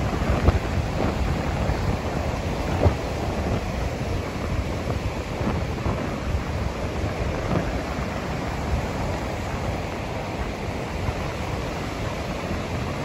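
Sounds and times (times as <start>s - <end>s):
ocean surf breaking on beach: 0.0s - 13.0s
wind gusting on microphone: 0.0s - 13.0s.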